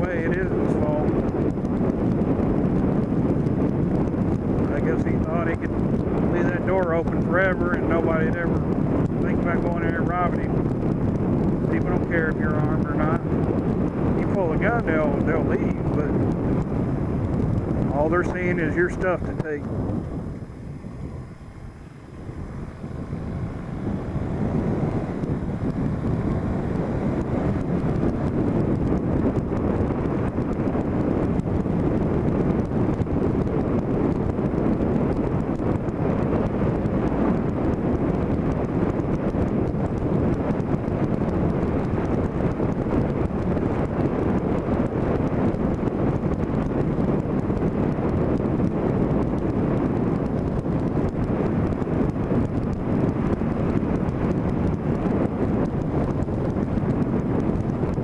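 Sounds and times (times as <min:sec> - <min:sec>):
road noise: 0:00.0 - 0:58.0
vehicle engine: 0:00.0 - 0:58.0
wind rushing over microphone: 0:00.0 - 0:58.0.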